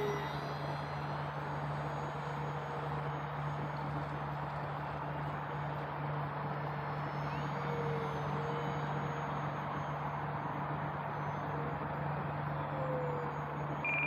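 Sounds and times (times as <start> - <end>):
model airplane motor drone: 0.0 - 5.8, 6.6 - 13.5.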